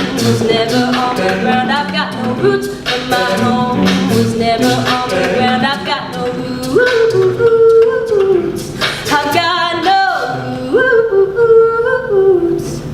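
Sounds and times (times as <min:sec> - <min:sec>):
a cappella group singing: 0:00.0 - 0:12.9.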